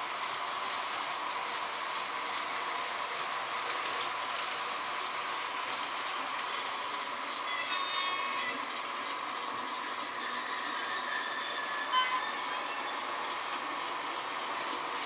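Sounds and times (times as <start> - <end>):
model trains running on track: 0.0 - 15.0.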